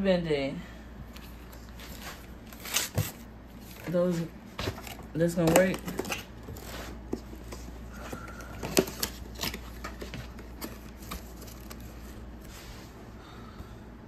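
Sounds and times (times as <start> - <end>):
cardboard box and paper rustling: 1.2 - 12.8.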